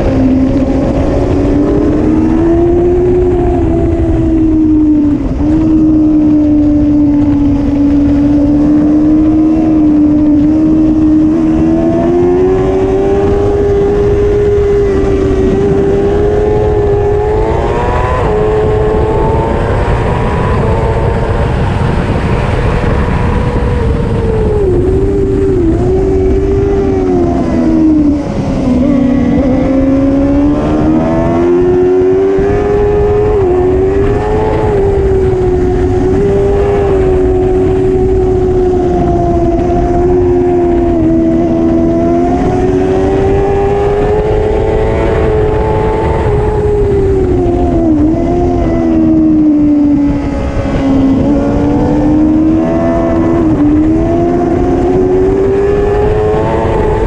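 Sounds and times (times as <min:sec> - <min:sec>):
low rushing noise: 0:00.0 - 0:57.0
racing motorcycle engine revving: 0:00.0 - 0:57.0.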